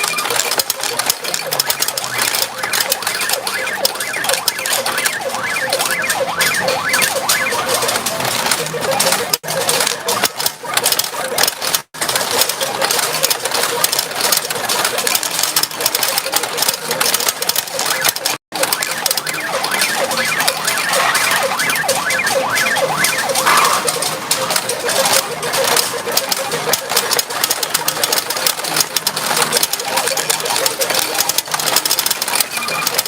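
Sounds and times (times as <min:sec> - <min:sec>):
electronic machine tones: 0:00.0 - 0:11.5, 0:16.1 - 0:28.2, 0:29.4 - 0:33.0
steel balls clattering: 0:00.0 - 0:33.0.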